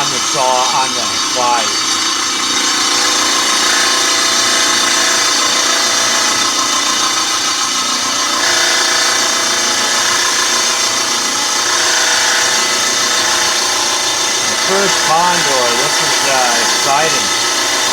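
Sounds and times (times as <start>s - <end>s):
saw blade cutting stone: 0.0s - 17.9s.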